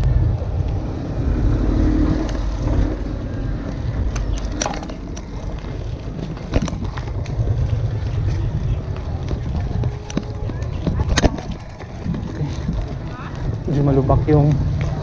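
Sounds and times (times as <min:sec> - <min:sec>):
motor vehicle passing: 0:00.0 - 0:15.0
wind rumbling on microphone: 0:00.0 - 0:15.0.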